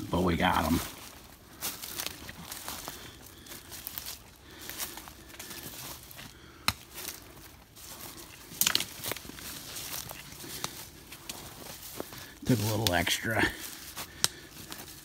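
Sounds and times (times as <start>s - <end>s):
footsteps crunching dry leaves: 0.0s - 15.0s
brushing past twigs: 0.5s - 15.0s.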